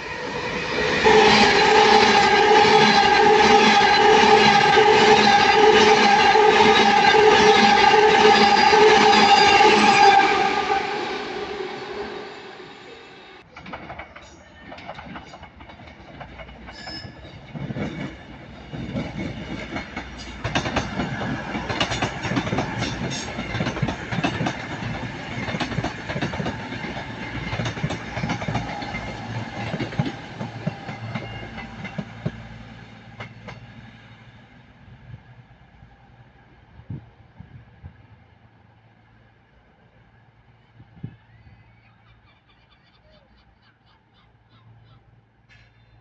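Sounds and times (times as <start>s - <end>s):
electric train passing: 0.0s - 41.4s.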